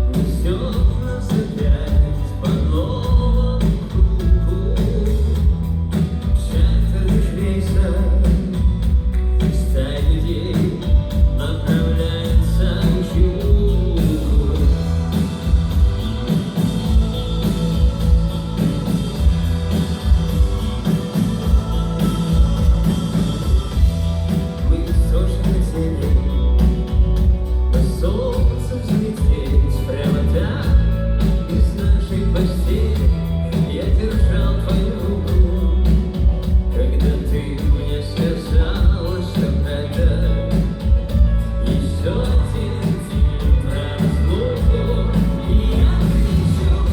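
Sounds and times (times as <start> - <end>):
person singing: 0.0 - 46.9
rock band playing: 0.0 - 46.9.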